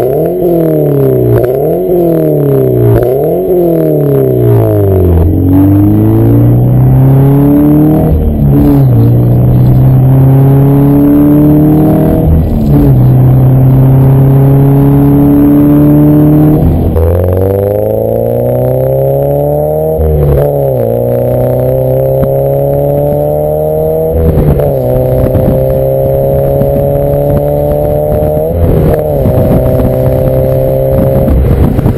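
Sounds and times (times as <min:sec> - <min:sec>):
car engine revving and accelerating: 0:00.0 - 0:31.9.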